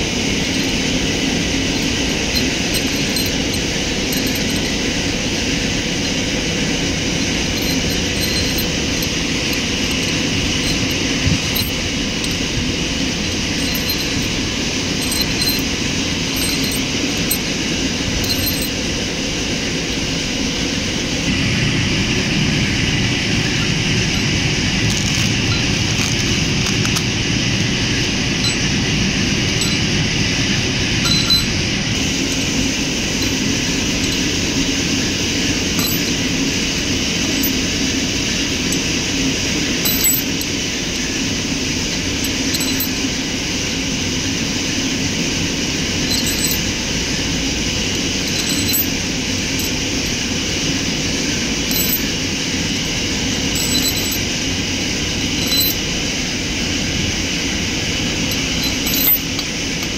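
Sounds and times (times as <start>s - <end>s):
faint light clinks: 0.0s - 19.3s, 23.4s - 39.0s, 39.7s - 43.3s, 46.0s - 50.6s, 51.6s - 54.5s, 55.1s - 56.0s, 58.0s - 59.9s
steady machine noise: 0.0s - 59.9s.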